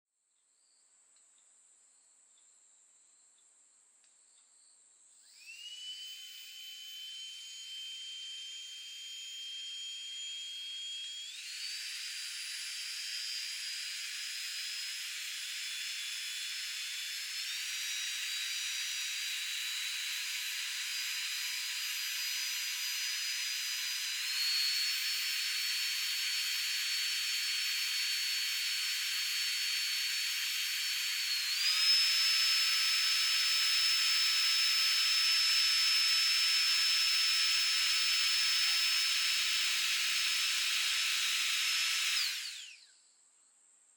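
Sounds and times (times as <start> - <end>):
small motor whining: 5.2 - 43.0.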